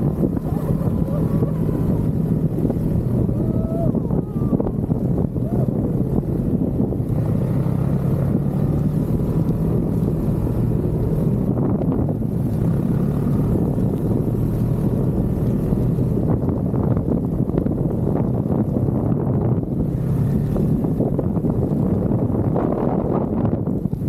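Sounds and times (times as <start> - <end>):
snowmobile engine running: 0.0 - 24.0
wind buffeting microphone: 0.0 - 24.0.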